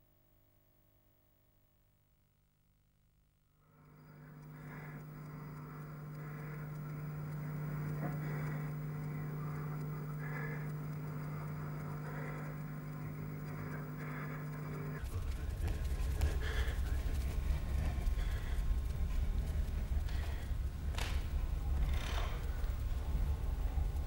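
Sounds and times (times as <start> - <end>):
steady low hum: 2.7 - 24.0.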